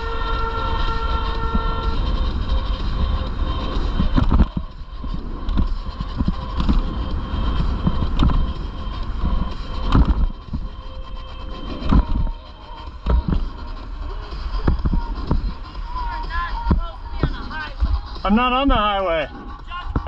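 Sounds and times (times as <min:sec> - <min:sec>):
faint steady tones: 0:00.0 - 0:20.0
street traffic: 0:00.0 - 0:20.0
wind rumble on microphone: 0:00.0 - 0:20.0.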